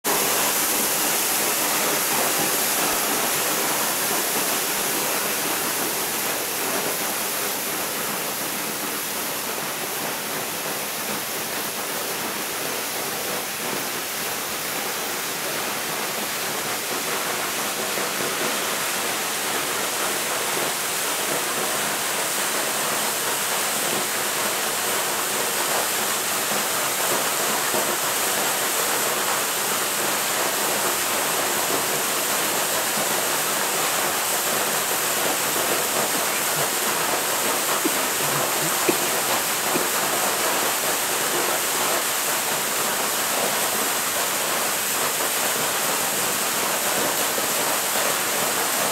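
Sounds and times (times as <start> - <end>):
waterfall pouring into pool: 0.0 - 48.9.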